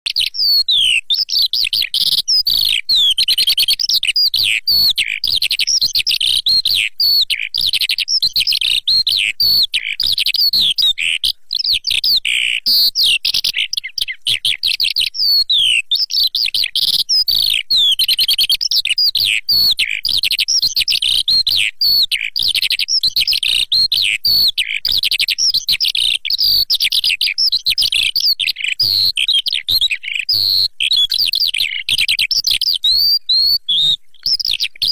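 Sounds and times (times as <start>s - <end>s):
lark singing: 0.1s - 34.9s.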